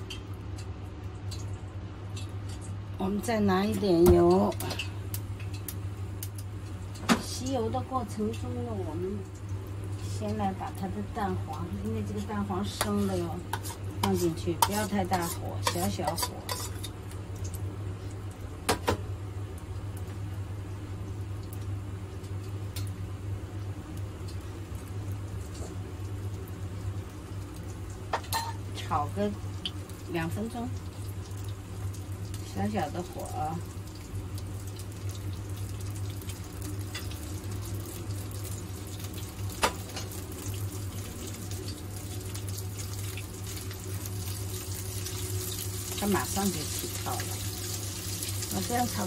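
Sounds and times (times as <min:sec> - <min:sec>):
soft sizzle in oil: 0:00.0 - 0:49.0
steady low hum: 0:00.0 - 0:49.0.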